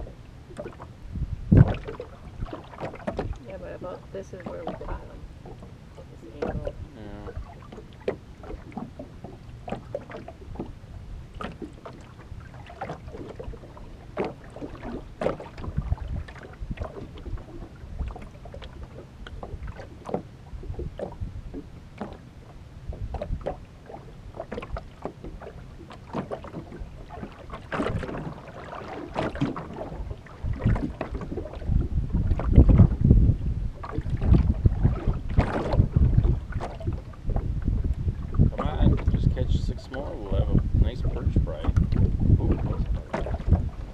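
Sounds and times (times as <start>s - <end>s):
waves slapping metal hull: 0.0s - 43.9s
wind buffeting microphone: 0.0s - 43.9s.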